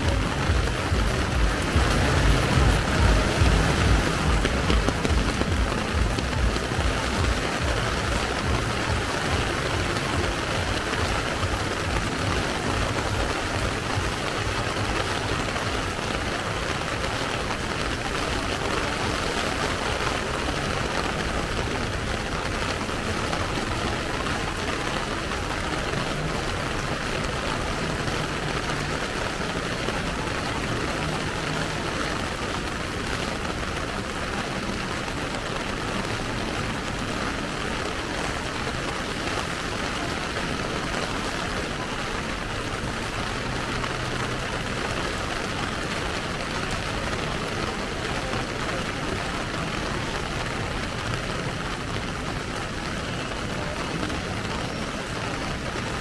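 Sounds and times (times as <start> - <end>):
rain pattering on an umbrella: 0.0 - 56.0.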